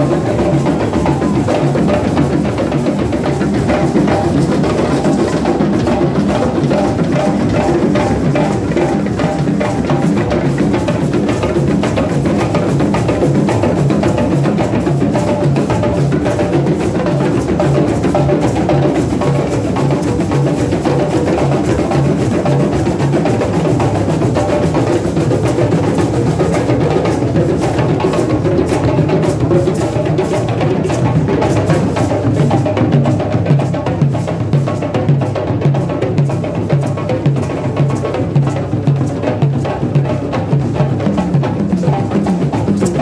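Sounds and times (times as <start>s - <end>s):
hand drums playing: 0.0s - 43.0s.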